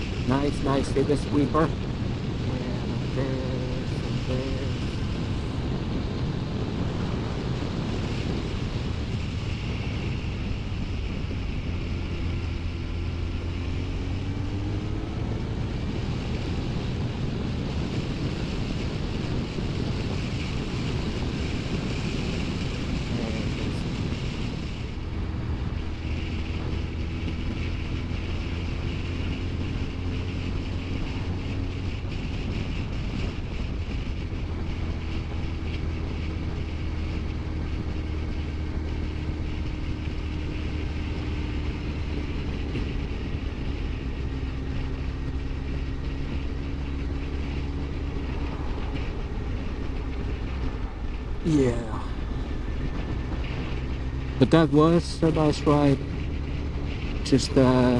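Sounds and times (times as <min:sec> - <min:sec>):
motorcycle engine running: 0:00.0 - 0:57.9
wind rushing over microphone: 0:00.0 - 0:57.9.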